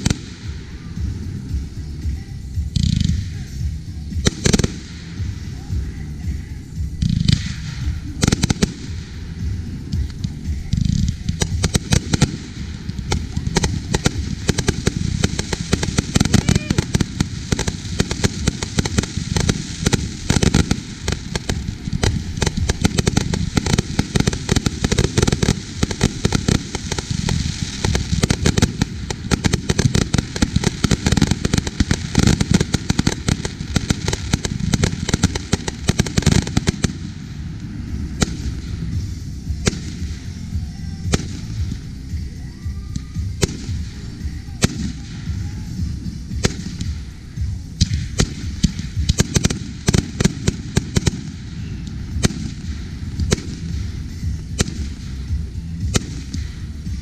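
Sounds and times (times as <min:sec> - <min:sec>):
firework cake shots and crackling: 0:00.0 - 0:57.0.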